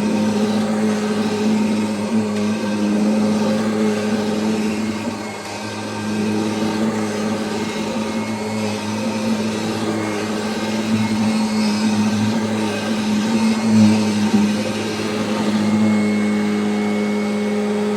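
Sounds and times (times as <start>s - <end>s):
upright vacuum cleaner running: 0.0s - 17.9s.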